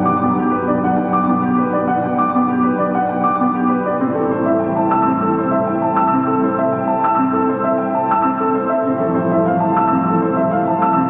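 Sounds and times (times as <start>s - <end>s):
soft ambient keyboard music: 0.0s - 11.0s.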